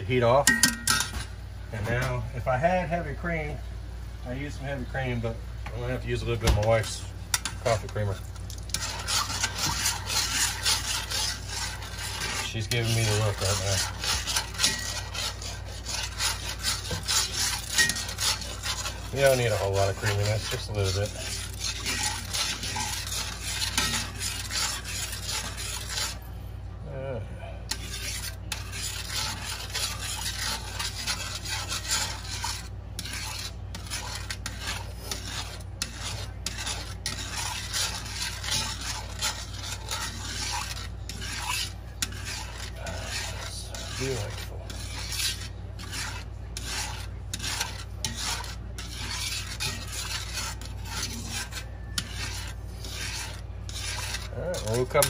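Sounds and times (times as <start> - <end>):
metal tongs scraping a skillet: 6.6 - 26.3, 27.7 - 55.0.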